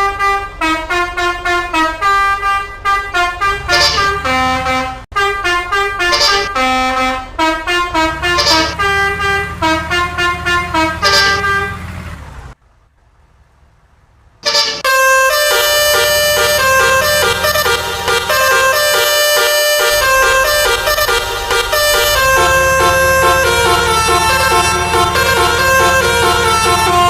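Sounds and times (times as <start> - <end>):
multi-tone horn melody: 0.0 - 11.9, 14.4 - 27.0.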